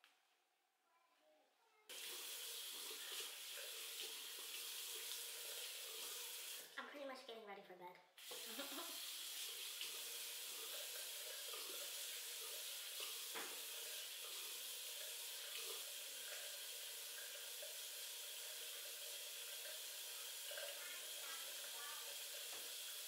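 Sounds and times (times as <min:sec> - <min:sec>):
faucet running into sink: 0:01.9 - 0:06.8, 0:08.2 - 0:23.0.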